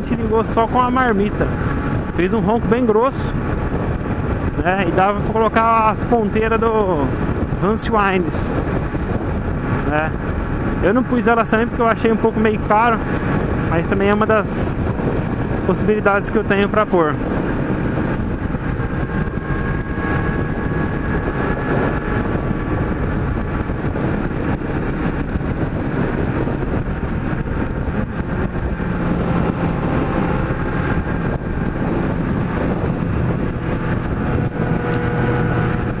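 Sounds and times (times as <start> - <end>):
motorcycle engine cruising: 0.0 - 36.0
wind noise: 0.0 - 36.0.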